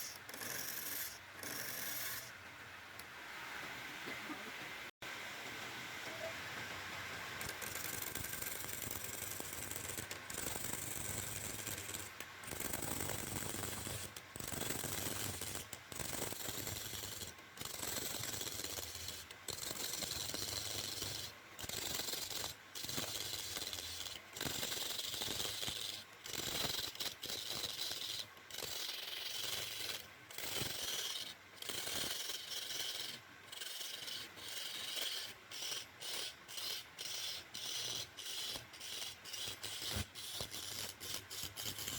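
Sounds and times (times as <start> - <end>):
hand tool rasping wood: 7.4 - 41.9.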